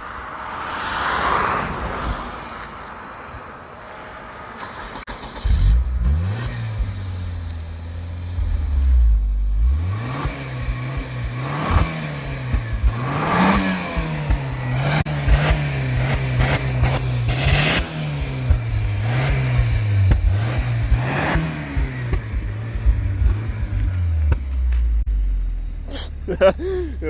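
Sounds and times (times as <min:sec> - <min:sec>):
car engine revving and idling: 0:04.7 - 0:27.0.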